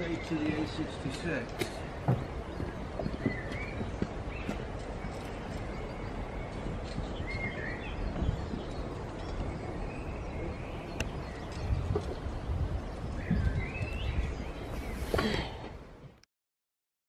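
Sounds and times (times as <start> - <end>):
bird chirping: 0.0 - 15.6
outdoor background rumble: 0.0 - 16.2.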